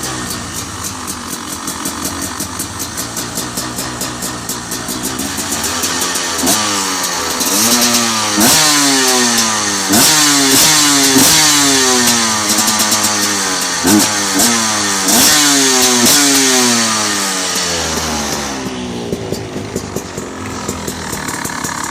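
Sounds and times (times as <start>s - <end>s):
two-stroke engine idling: 0.0s - 21.9s
engine revving in throttle blips: 3.4s - 21.9s.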